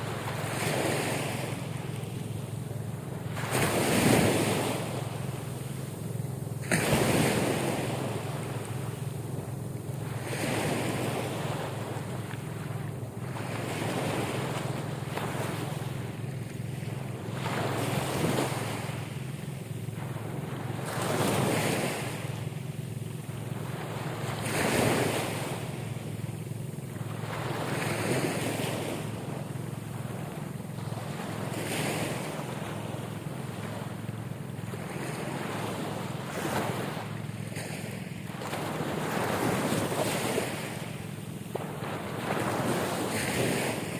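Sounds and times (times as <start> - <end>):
ocean waves surging: 0.0 - 43.9
steady low hum: 0.0 - 43.9.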